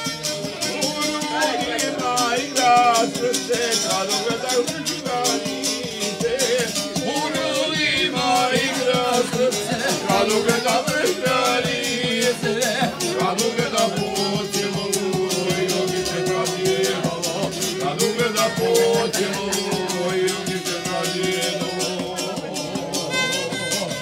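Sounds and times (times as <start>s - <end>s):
strummed lute: 0.0s - 24.0s.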